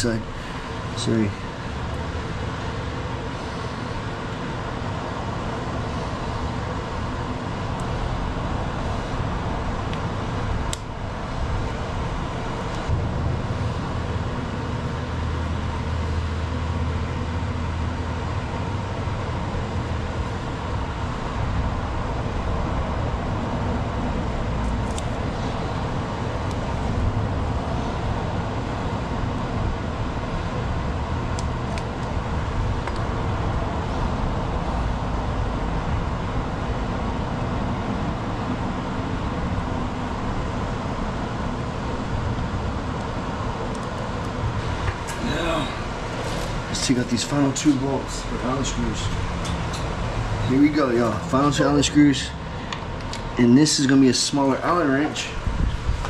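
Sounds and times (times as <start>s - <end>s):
machine humming: 0.0s - 55.9s.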